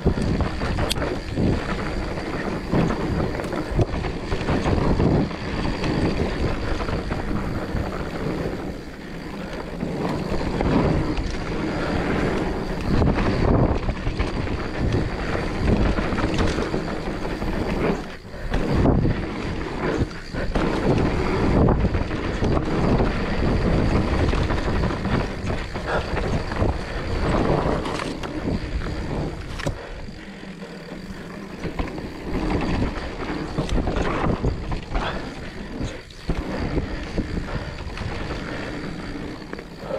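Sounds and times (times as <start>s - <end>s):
bike knocks and rattles: 0.0s - 39.9s
tyres rolling over dirt trail: 0.0s - 39.9s
wind buffeting microphone: 0.0s - 39.9s.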